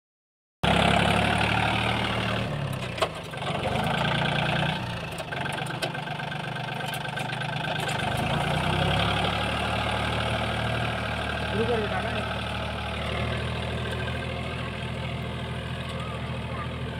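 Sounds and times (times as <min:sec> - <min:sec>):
tractor diesel engine running: 0:00.6 - 0:16.9.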